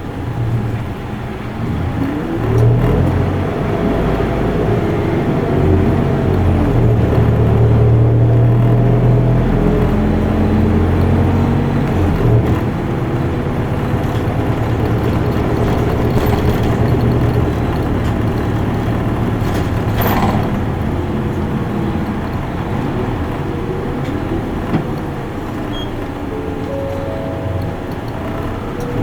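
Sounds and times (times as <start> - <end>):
bus diesel engine: 0.0 - 29.0
road and tyre noise: 0.0 - 29.0.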